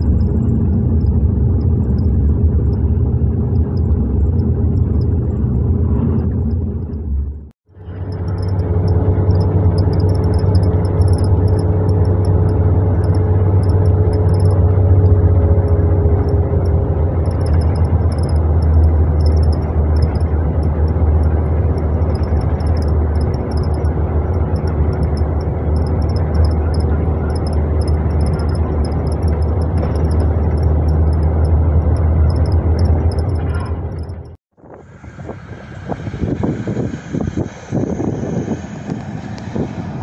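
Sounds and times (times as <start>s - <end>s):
engine and road rumble: 0.0s - 40.0s
faint engine hum: 0.0s - 40.0s.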